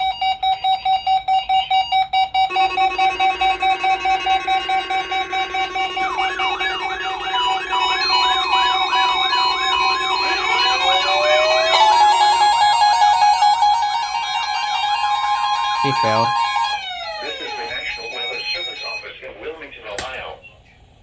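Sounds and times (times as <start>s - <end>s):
pulsing beep: 0.0s - 19.1s
warbling siren-like alarm: 0.0s - 19.1s
steady alarm tones: 0.0s - 19.6s.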